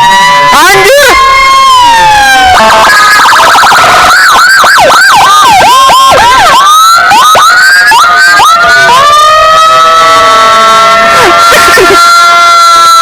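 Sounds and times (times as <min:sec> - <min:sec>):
electronic emergency siren: 0:00.0 - 0:13.0.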